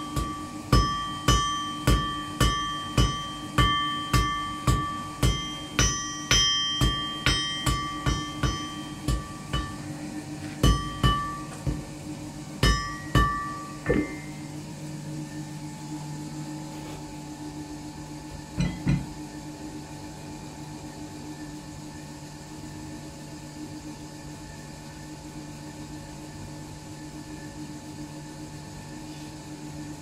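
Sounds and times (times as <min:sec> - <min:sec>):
forge blower humming: 0:00.0 - 0:30.0.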